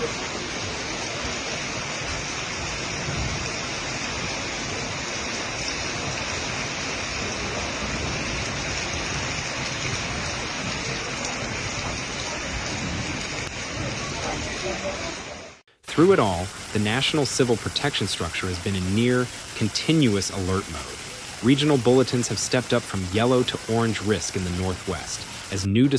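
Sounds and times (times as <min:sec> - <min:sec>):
heavy rain: 0:00.0 - 0:25.9
running water: 0:00.0 - 0:25.9.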